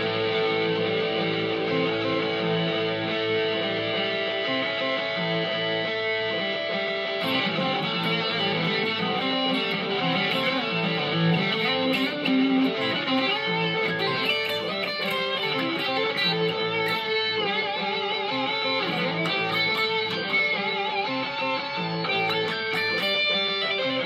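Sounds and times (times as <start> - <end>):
electric guitar picked notes: 0.0 - 24.0.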